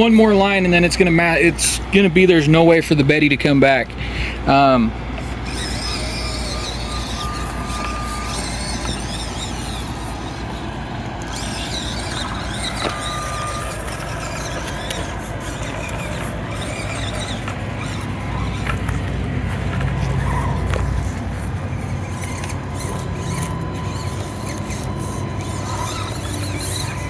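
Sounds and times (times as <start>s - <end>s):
small electric motor whining: 0.0s - 27.0s
short high-pitched whines: 4.5s - 27.0s.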